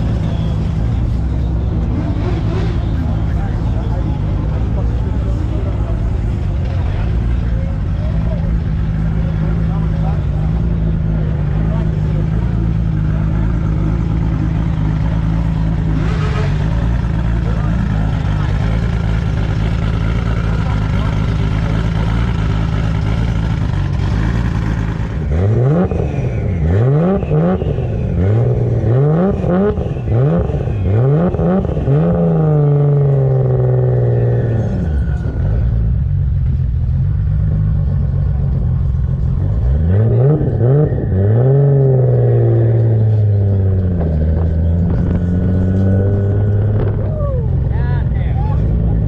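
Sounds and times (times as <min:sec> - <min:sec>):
car engine idling and revving: 0:00.0 - 0:49.0.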